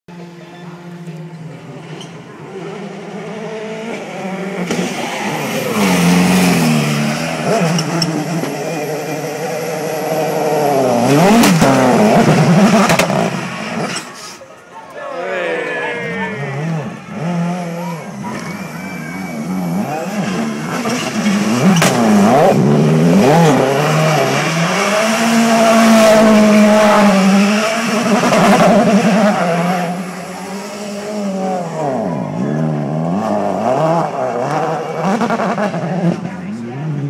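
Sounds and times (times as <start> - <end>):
rally car engine revving: 0.1 - 14.3, 16.0 - 37.0.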